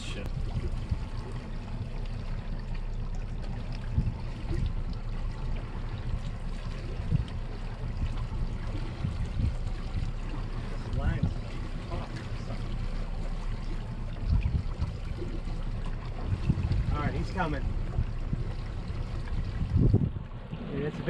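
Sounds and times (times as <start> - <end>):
low rumble: 0.0 - 21.0
water lapping against boat hull: 0.0 - 21.0.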